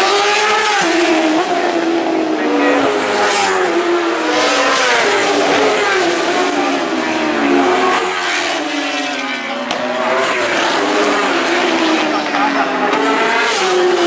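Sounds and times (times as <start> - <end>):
racing motorcycles at full speed: 0.0 - 14.0.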